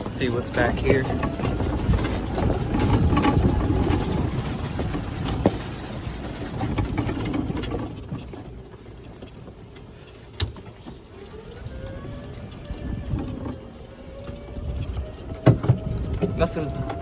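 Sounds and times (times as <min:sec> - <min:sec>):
golf cart driving over rough ground: 0:00.0 - 0:17.0.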